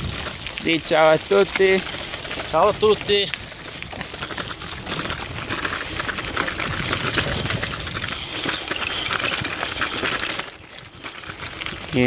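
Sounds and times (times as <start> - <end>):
bike tyres crunching on gravel: 0.0 - 12.0.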